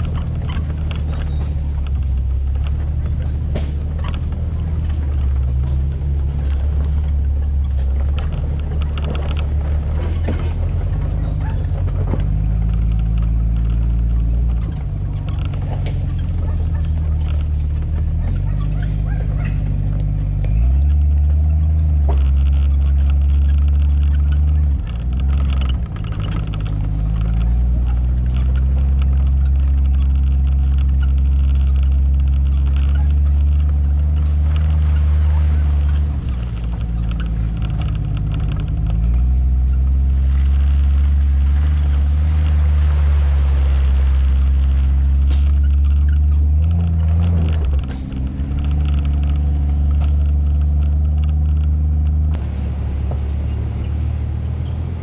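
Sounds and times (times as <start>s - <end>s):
car engine at low revs: 0.0s - 55.0s
stones clicking under tyres: 0.0s - 55.0s.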